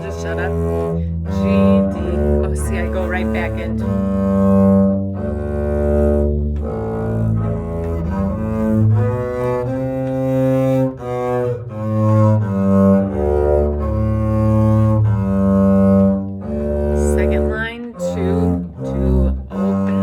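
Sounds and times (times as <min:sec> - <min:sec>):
bowed double bass: 0:00.0 - 0:20.0.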